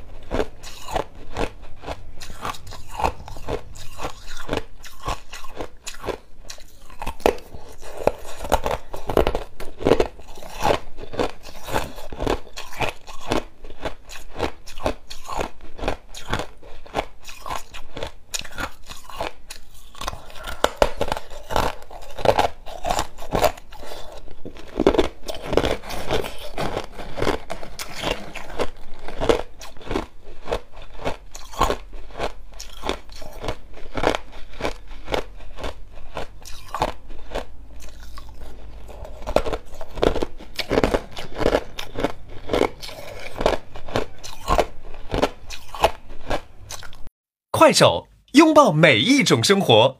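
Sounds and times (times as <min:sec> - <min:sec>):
person chewing ice cubes: 0:00.0 - 0:47.1.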